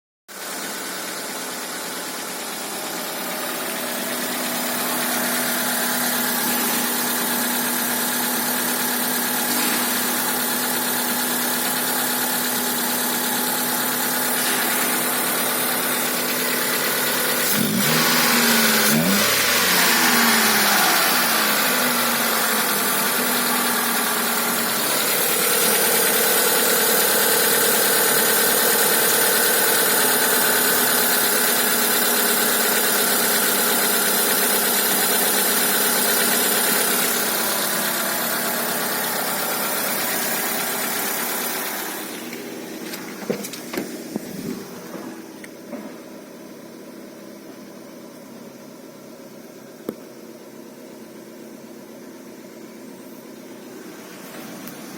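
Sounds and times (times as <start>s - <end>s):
petrol engine idling and revving: 0.3s - 47.5s, 48.6s - 54.9s.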